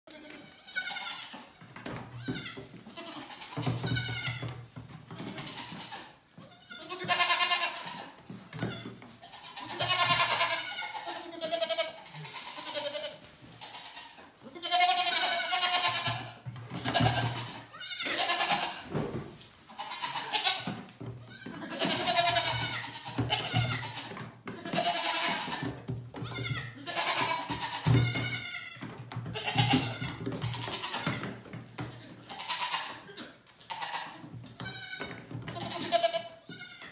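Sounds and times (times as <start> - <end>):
goat kids bleating: 0.1 - 18.9, 19.6 - 36.9.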